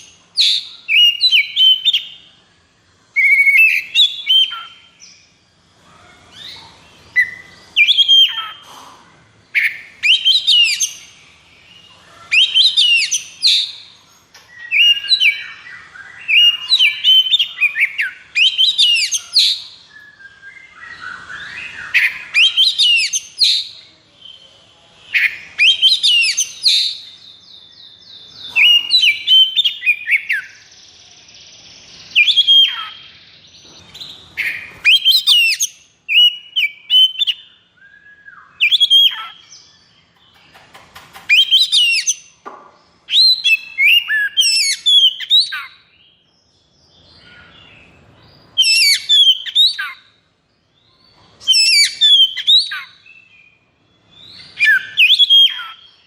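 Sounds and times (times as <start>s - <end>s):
bird song whistled phrases: 0.0s - 2.4s, 3.1s - 5.3s, 6.3s - 8.6s, 9.6s - 39.9s, 41.3s - 42.3s, 43.0s - 46.3s, 48.4s - 50.2s, 50.8s - 56.0s.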